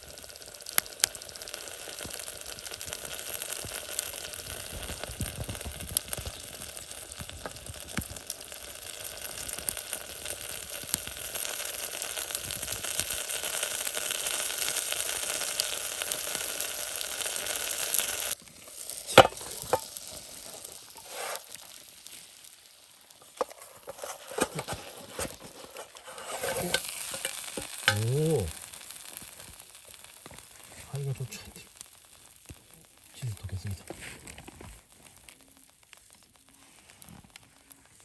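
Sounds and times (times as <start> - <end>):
pizza sizzling over campfire: 0.0 - 38.0.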